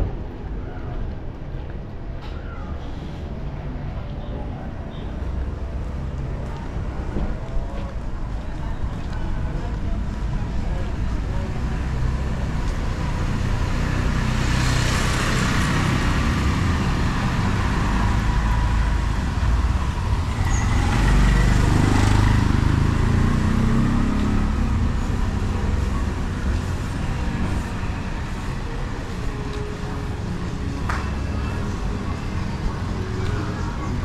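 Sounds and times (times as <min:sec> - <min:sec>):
background traffic: 0:00.0 - 0:34.0
vehicles passing close by: 0:00.0 - 0:34.0.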